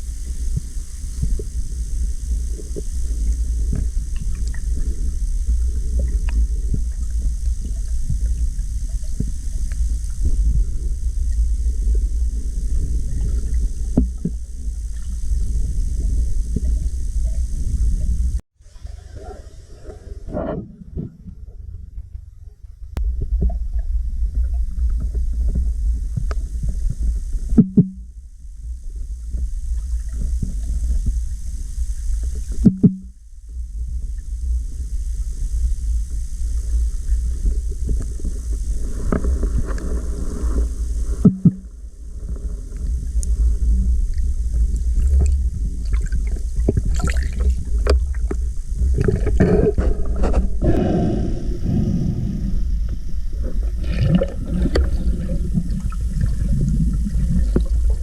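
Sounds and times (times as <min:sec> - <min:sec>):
underwater rumble: 0:00.0 - 0:58.0.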